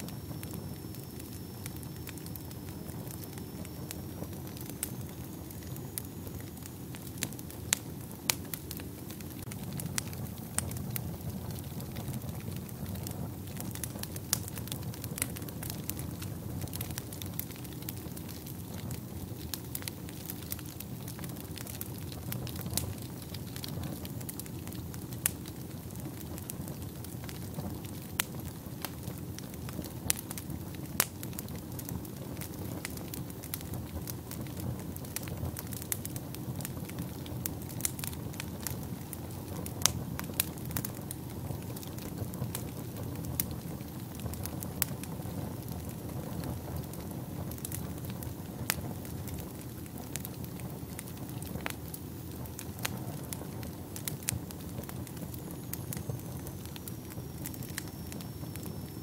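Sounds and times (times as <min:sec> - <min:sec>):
fire crackles and pops: 0:00.0 - 0:59.0
fire rushing in fireplace: 0:00.0 - 0:59.0.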